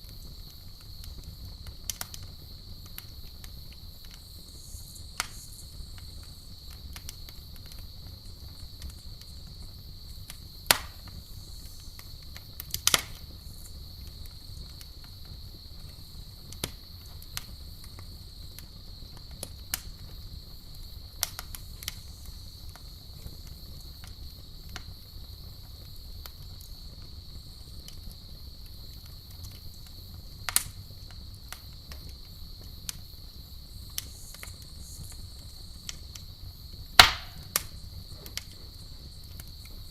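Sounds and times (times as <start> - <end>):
campfire crackling: 0.0 - 39.9
cricket trill: 0.0 - 39.9
fire pops: 0.0 - 39.9.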